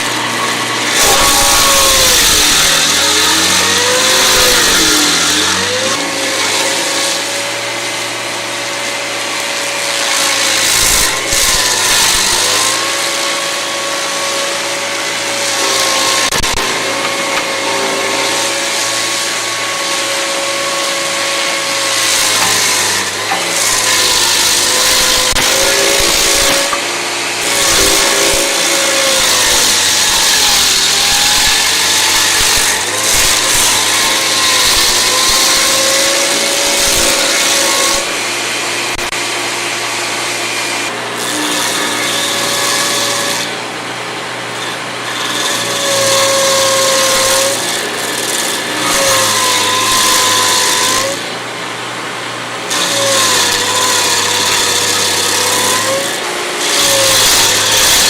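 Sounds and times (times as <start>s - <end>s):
engine labouring under load: 0.0s - 58.0s.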